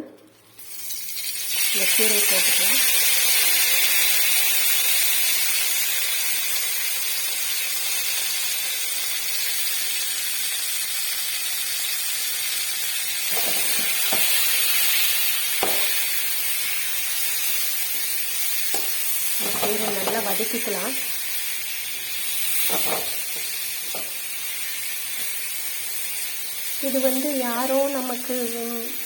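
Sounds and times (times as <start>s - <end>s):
greens sizzling in oil: 0.5s - 29.0s.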